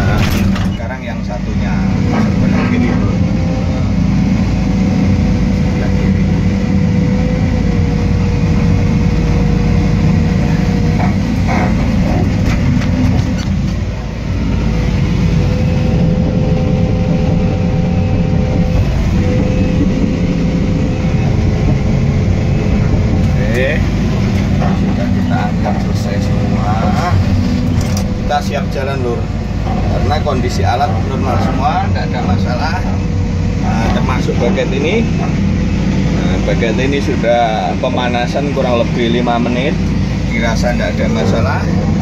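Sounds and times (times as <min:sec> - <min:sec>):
excavator diesel engine running: 0:00.0 - 0:42.0
hydraulic pump whine: 0:00.0 - 0:42.0.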